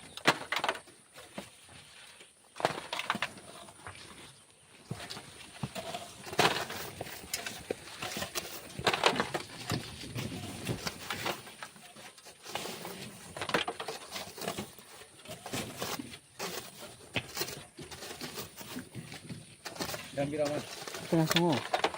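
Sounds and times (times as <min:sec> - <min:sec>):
shovel scraping and digging sand: 0:02.5 - 0:21.9.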